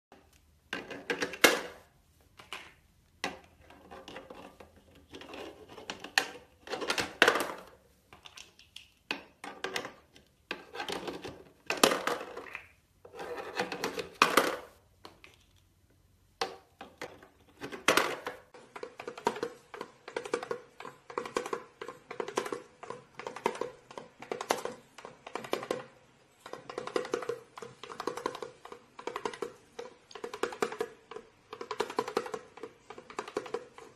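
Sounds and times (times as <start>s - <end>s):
plastic shapes rattling into toy box: 0.7s - 1.8s, 2.4s - 15.7s, 16.4s - 33.9s.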